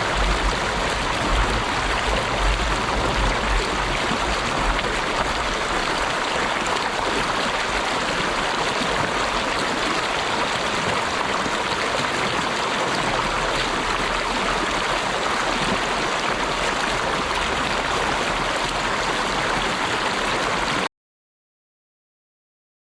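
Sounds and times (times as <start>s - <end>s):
running water rushing: 0.0s - 20.9s.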